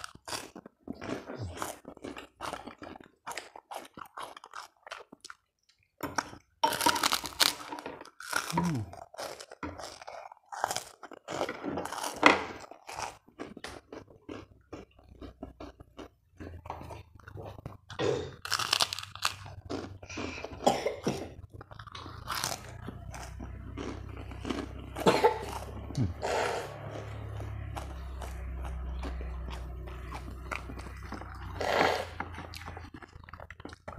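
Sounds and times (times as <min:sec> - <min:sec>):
crunching and chewing crackers: 0:00.0 - 0:33.9.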